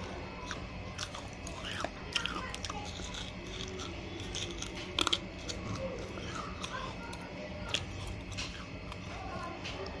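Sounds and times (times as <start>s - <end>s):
clay crunched between teeth: 0.0s - 9.1s
chewing: 0.0s - 10.0s.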